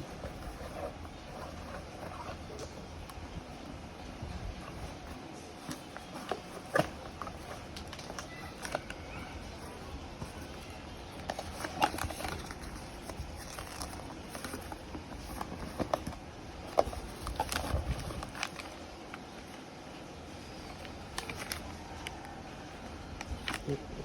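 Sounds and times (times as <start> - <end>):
faint low background hum: 0.0 - 24.0.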